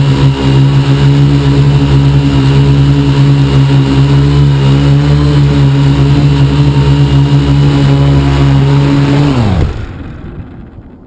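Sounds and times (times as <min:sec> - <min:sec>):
drone motors humming: 0:00.0 - 0:11.0.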